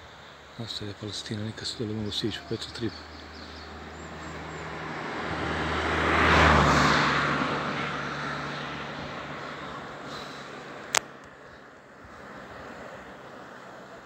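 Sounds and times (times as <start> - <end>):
motor vehicle passing by: 1.9 - 14.0.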